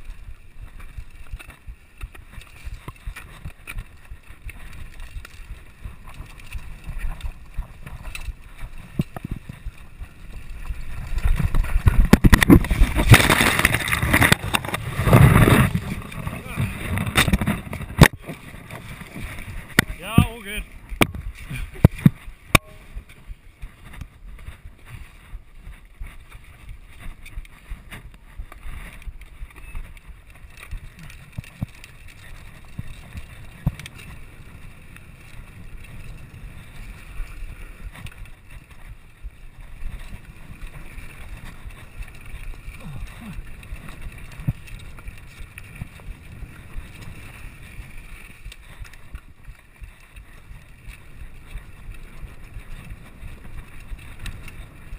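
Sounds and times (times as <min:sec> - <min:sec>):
bike rattling and knocking: 0:00.0 - 0:54.9
bike tyres rumbling over dirt: 0:00.0 - 0:54.9
wind on microphone: 0:00.0 - 0:54.9.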